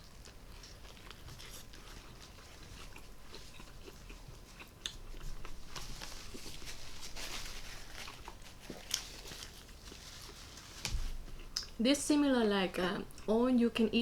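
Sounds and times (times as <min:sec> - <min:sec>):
person chewing a sandwich: 0:00.0 - 0:11.8.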